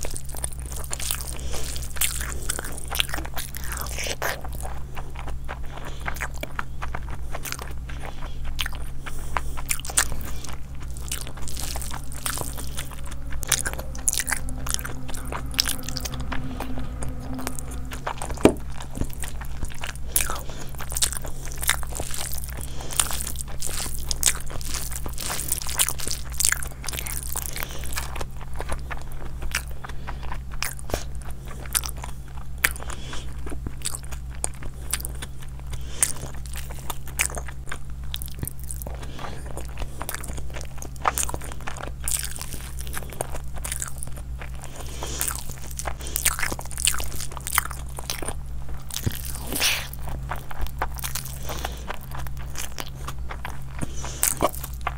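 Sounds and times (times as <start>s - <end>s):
person chewing crunchy food: 0.0s - 54.9s
steady low hum: 0.0s - 54.9s.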